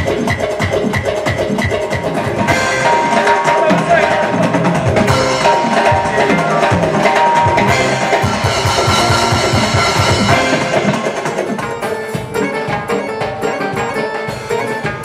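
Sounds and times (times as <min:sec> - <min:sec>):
band music: 0:00.0 - 0:15.0
drum kit fast strokes: 0:00.0 - 0:15.0.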